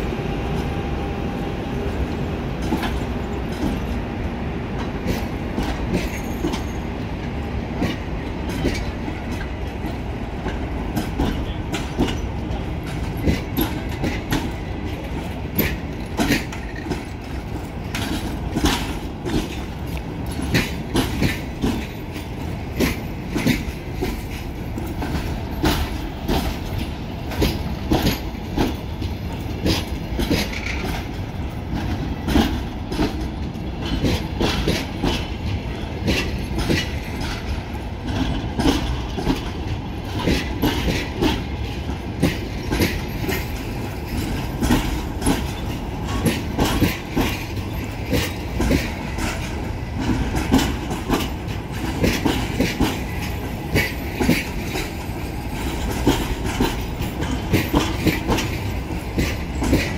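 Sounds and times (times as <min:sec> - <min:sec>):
train rumble: 0:00.0 - 0:59.9
train wheels clacking over rail joints: 0:01.6 - 0:59.9.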